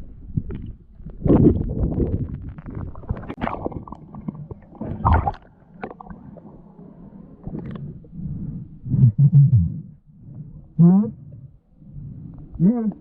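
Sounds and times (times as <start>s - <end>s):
muffled water gurgling and bubbling: 0.0s - 13.0s.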